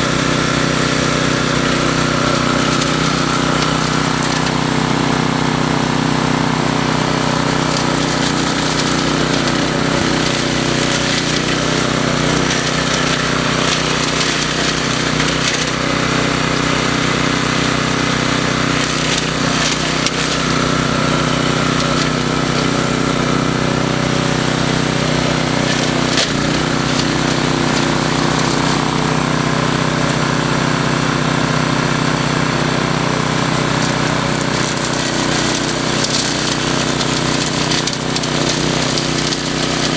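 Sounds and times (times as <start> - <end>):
brush and wood being cut: 0.0 - 5.2, 7.2 - 17.6, 18.3 - 30.5, 33.2 - 39.9
mower engine running under load: 0.0 - 39.9.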